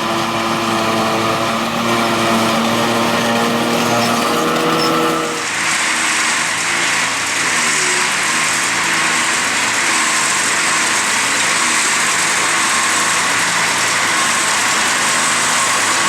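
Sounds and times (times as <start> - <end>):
farm machinery engine: 0.0 - 16.0.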